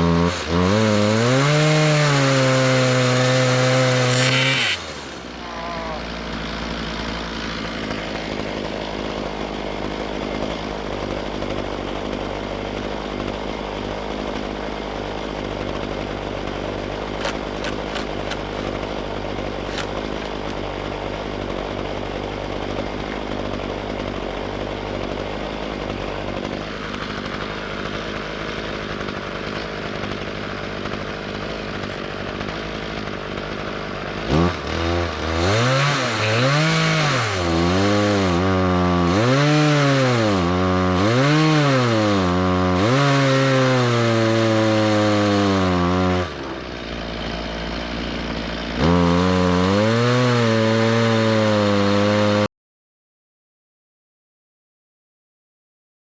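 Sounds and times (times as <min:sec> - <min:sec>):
chainsaw cutting through wood: 0:00.0 - 0:52.5.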